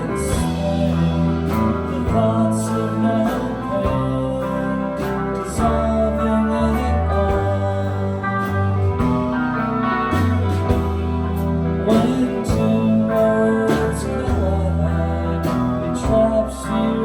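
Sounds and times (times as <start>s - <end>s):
bass guitar notes: 0.0s - 17.0s
electric guitar chords: 0.0s - 17.0s.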